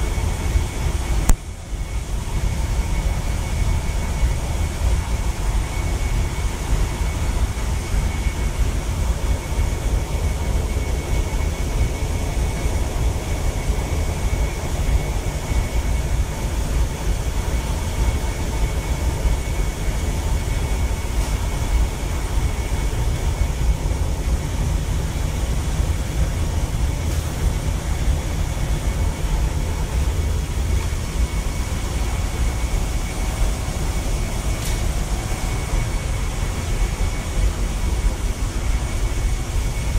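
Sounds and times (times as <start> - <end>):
engine room machinery rumble: 0.0 - 39.9
faint steady whine: 0.0 - 39.9.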